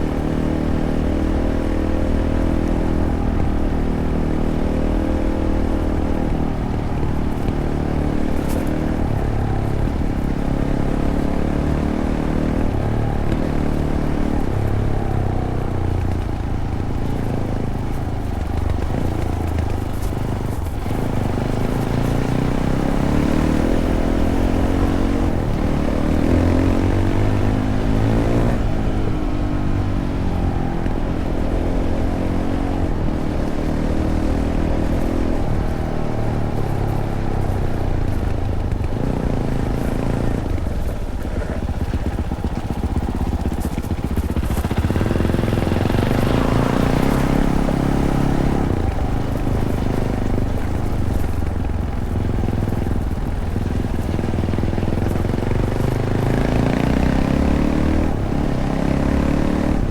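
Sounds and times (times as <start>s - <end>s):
gear shift: 0.0s - 58.6s
motorcycle engine revving: 0.0s - 59.9s.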